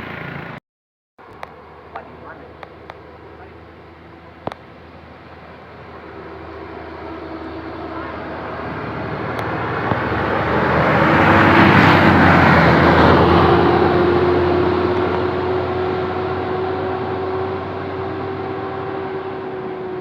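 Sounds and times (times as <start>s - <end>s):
bus engine and road noise: 0.0s - 0.6s, 1.2s - 20.0s.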